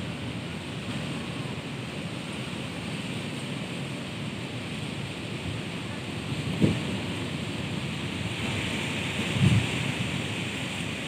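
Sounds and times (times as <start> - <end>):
strong wind rustling leaves: 0.0 - 11.0.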